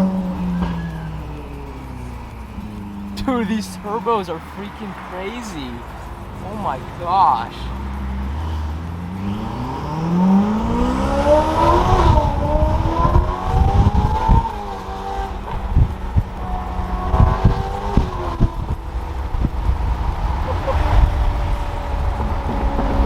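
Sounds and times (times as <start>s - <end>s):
low thumps: 0.0s - 23.0s
sports car engine accelerating: 0.0s - 23.0s.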